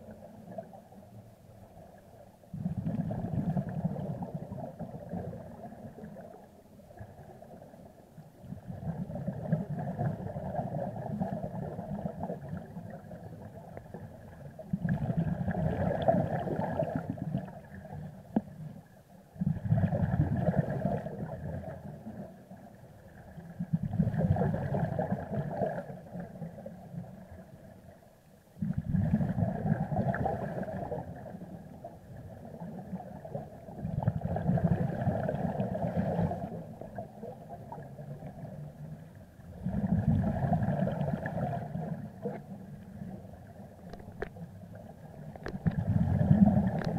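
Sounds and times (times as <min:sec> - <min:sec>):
underwater bubbles gurgling: 0:00.0 - 0:46.9.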